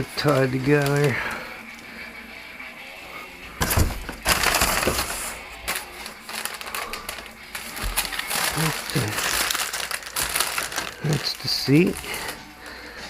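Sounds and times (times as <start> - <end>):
packaging crunching and crackling: 0.0 - 1.8, 3.6 - 13.0.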